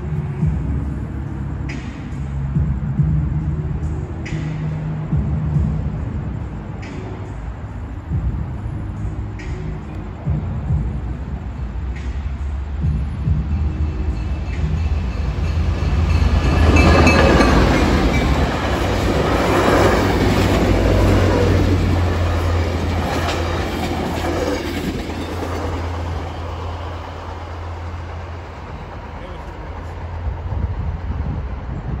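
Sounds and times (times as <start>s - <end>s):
diesel locomotive drone: 0.0s - 32.0s
train rumbling: 0.0s - 32.0s.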